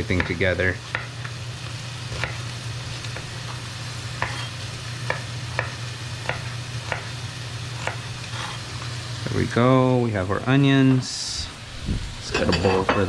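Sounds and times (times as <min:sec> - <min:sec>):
meat sizzling in a pan: 0:00.0 - 0:10.6.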